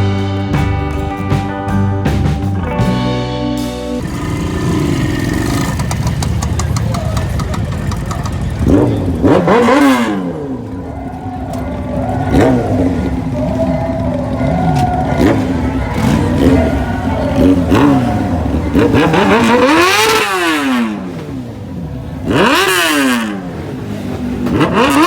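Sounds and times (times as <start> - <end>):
engine revving: 2.3 - 10.9, 11.5 - 25.0.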